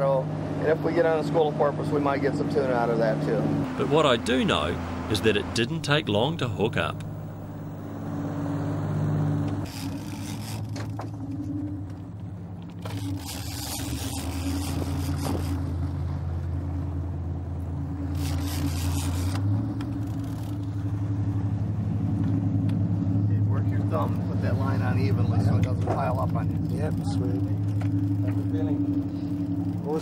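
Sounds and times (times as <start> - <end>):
boat engines droning: 0.0 - 30.0.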